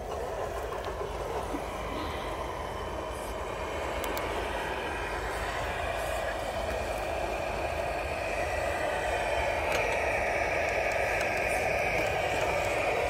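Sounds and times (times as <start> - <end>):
toy truck motor whirring: 0.0 - 13.0.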